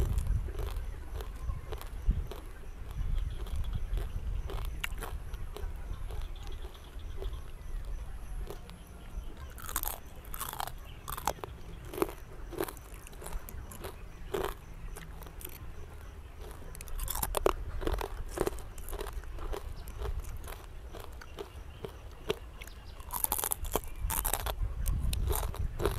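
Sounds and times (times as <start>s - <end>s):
crunching fried chips: 0.0s - 8.8s, 9.4s - 25.9s.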